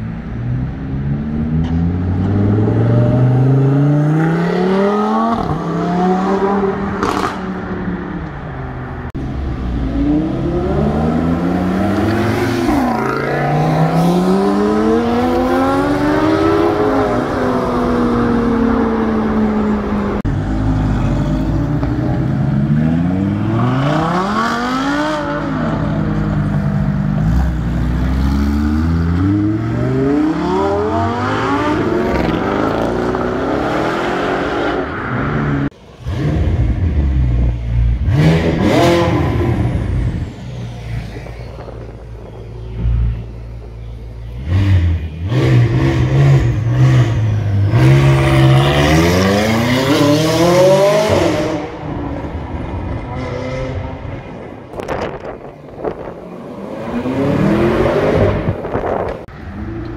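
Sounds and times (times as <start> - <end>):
supercar engines revving: 0.0 - 59.9.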